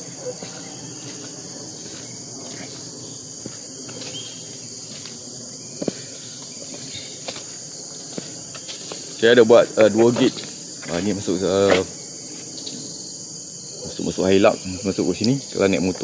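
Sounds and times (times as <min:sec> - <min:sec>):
insects chorus: 0:00.0 - 0:16.0.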